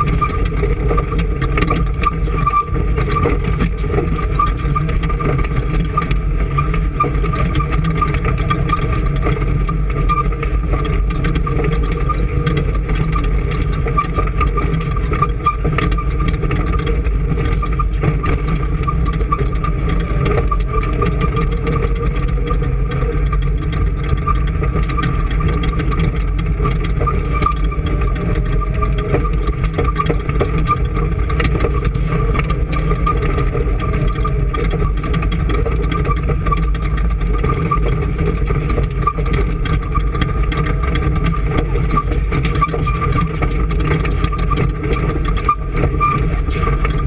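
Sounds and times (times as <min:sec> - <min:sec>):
engine running with high whine: 0:00.0 - 0:47.0.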